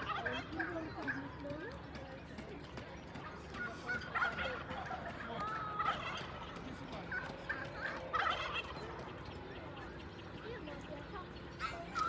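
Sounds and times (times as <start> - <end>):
poultry warbling calls: 0.0 - 2.0, 2.6 - 12.0.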